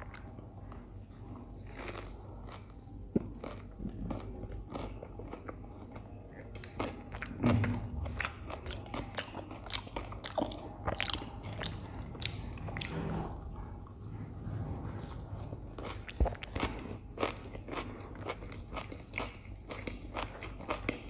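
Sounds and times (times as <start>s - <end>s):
person chewing toasted bread: 0.0s - 13.0s, 13.7s - 21.0s.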